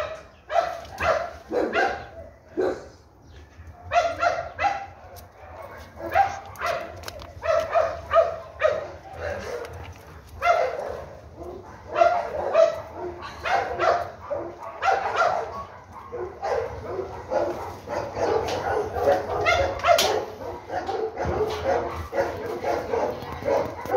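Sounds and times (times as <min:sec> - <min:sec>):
dog barking and yelping: 0:00.0 - 0:03.0, 0:03.7 - 0:23.9.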